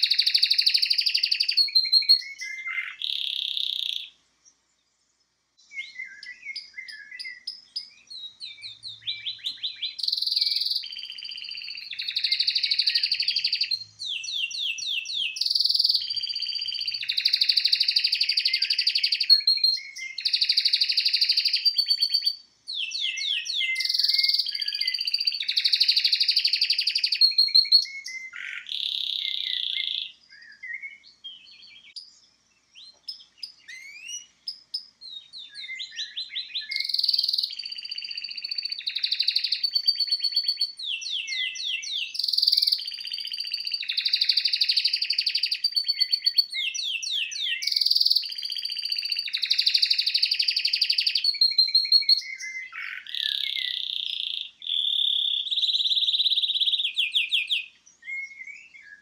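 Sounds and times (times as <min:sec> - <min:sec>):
canary singing trills: 0:00.0 - 0:04.6, 0:05.6 - 0:59.0.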